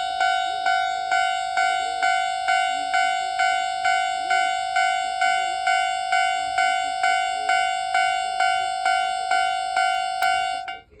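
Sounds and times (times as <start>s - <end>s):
level crossing alarm dinging: 0.0s - 11.0s.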